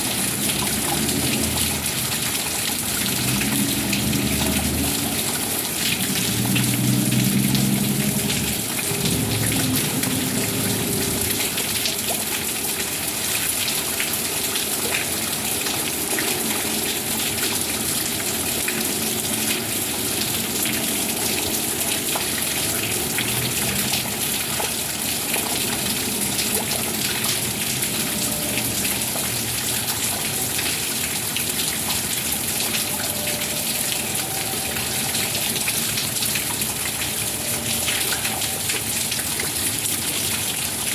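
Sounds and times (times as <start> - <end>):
heavy rain falling: 0.0 - 40.9
water gushing: 0.0 - 40.9.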